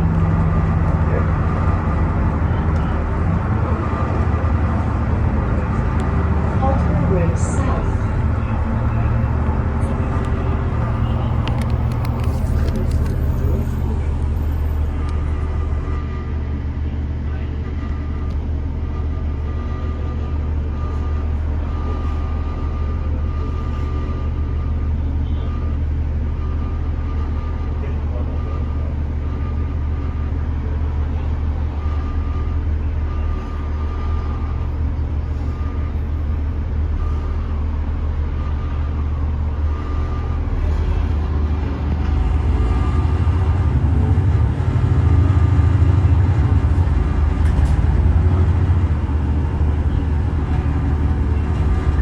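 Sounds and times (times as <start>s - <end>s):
bus engine rumble: 0.0s - 52.0s.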